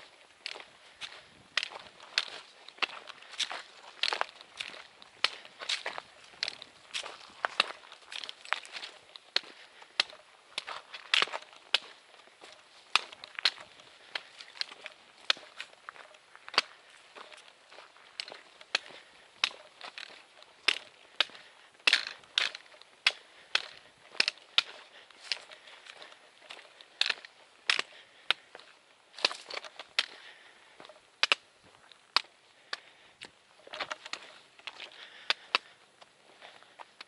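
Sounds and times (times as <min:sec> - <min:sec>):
footsteps crunching on trail: 0:00.0 - 0:37.0.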